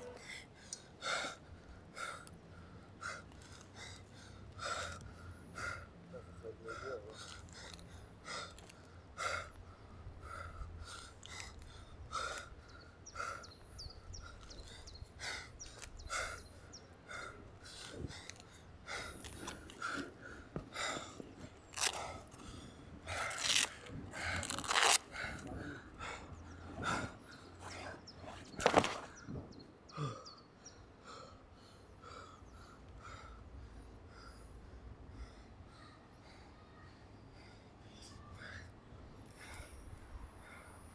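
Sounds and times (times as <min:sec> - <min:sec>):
man breathing hard: 0:00.0 - 0:28.3, 0:29.9 - 0:40.9.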